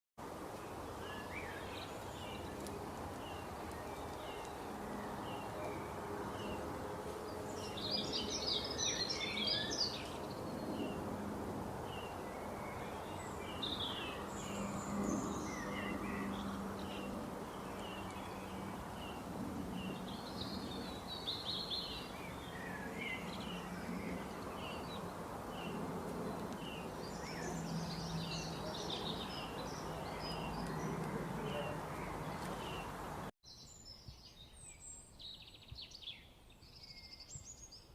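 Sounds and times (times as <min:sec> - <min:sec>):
birds chirping and singing: 0:01.0 - 0:11.0, 0:11.9 - 0:37.9.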